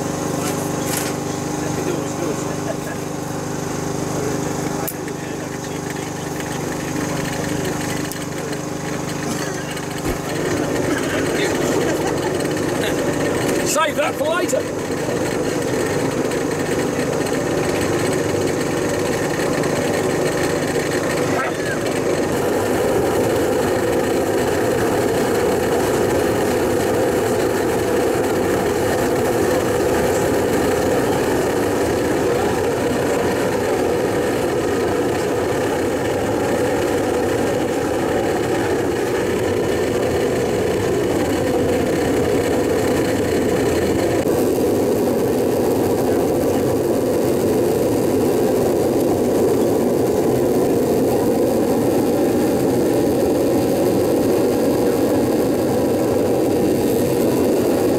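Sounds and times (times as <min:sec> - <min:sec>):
furnace blower whirring and roaring: 0:00.0 - 0:57.9.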